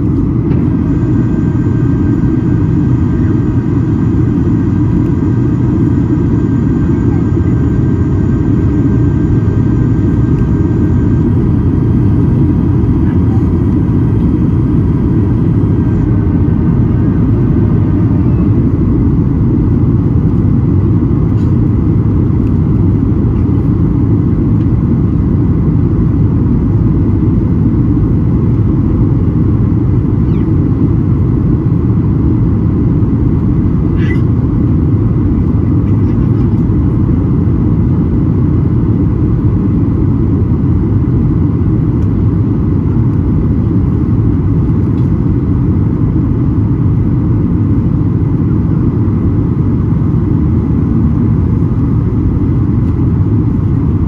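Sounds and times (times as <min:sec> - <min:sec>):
jet engines roaring in cabin: 0:00.0 - 0:54.0.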